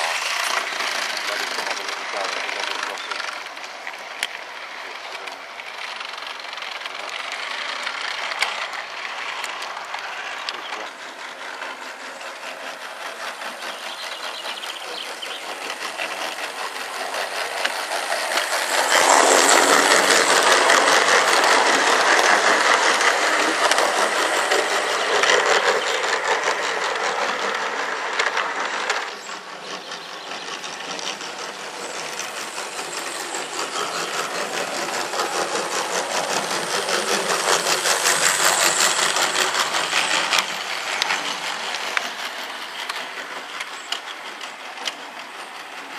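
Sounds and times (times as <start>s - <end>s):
model train wheels rolling on track: 0.0s - 45.9s.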